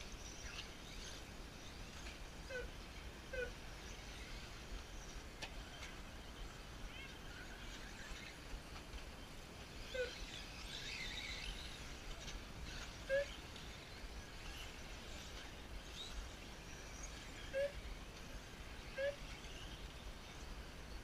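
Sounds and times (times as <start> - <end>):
faint open-air ambience: 0.0 - 21.0.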